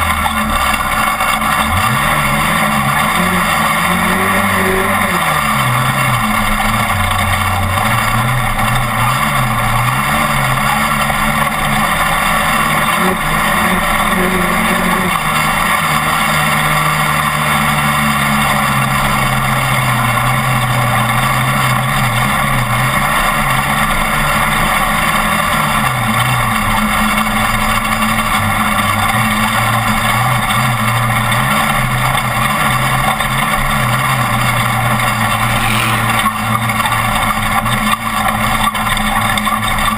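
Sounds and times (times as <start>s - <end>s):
road and wind noise: 0.0s - 39.9s
truck engine revving: 0.0s - 39.9s.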